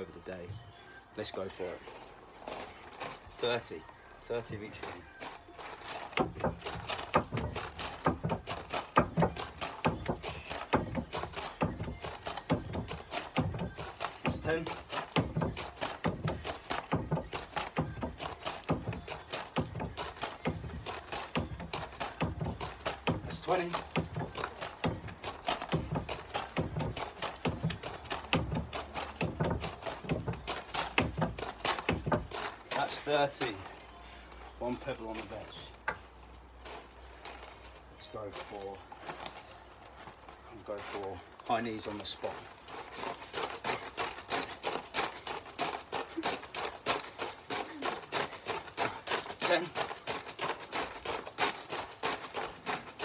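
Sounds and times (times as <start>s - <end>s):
footsteps on wooden step: 4.1s - 53.0s.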